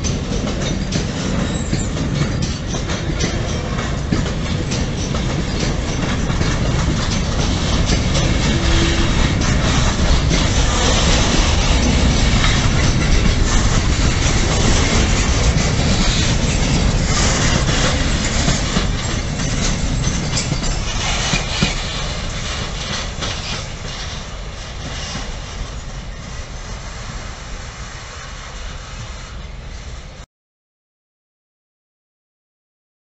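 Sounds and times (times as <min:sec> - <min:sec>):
wheels clattering over rail joints: 0:00.0 - 0:26.7
freight train rolling past: 0:00.0 - 0:30.2.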